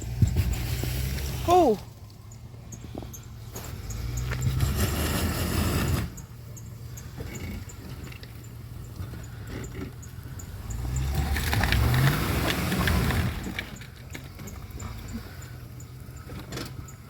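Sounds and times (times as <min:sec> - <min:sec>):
suv engine revving: 0:00.0 - 0:17.0.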